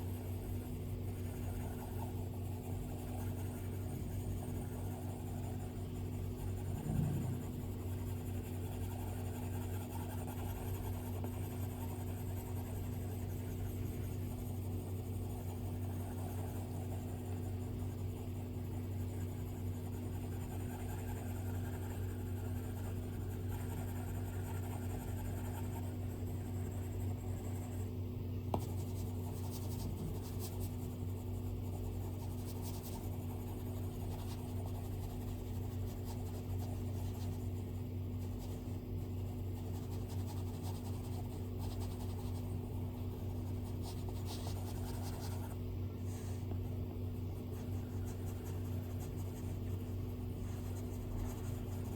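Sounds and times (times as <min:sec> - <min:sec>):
stylus scratching on screen: 0:00.0 - 0:46.7, 0:47.4 - 0:51.9
steady low hum: 0:00.0 - 0:51.9.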